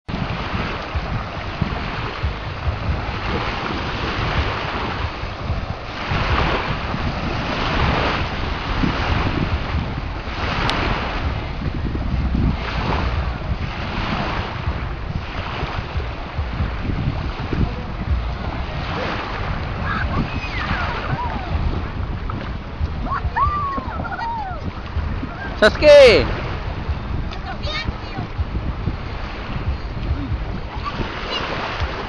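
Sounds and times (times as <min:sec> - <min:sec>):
sea water washing at shore: 0:00.1 - 0:32.0
wind buffeting microphone: 0:00.1 - 0:32.0.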